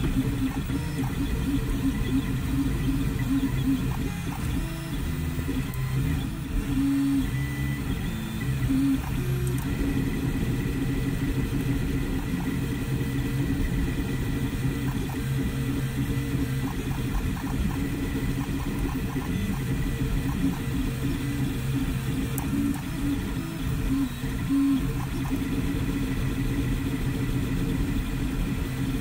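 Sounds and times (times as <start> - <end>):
cooling fans whirring: 0.0 - 29.0
stepper motors humming: 0.0 - 29.0.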